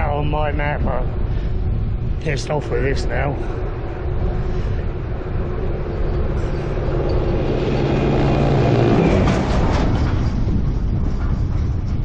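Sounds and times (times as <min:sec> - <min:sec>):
steady low hum: 0:00.0 - 0:12.0
wind buffeting microphone: 0:00.0 - 0:12.0.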